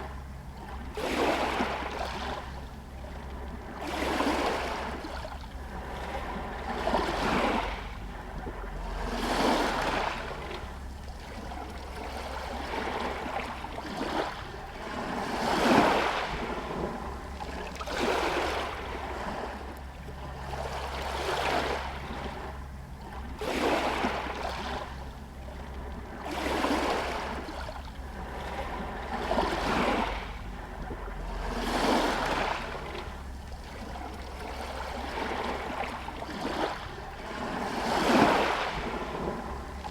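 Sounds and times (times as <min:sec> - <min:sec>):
waves lapping against stones: 0:00.0 - 0:39.9
steady low rumble: 0:04.6 - 0:39.9.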